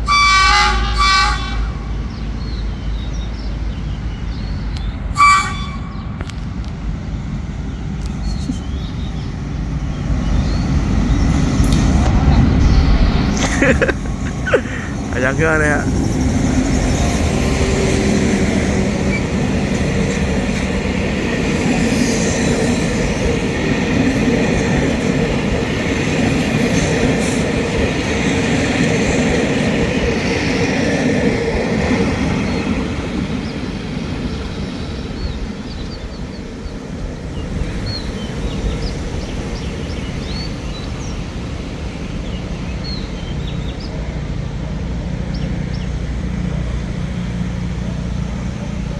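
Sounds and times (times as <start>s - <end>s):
train engine: 0.0s - 48.9s
train wheels rumbling: 0.0s - 48.9s.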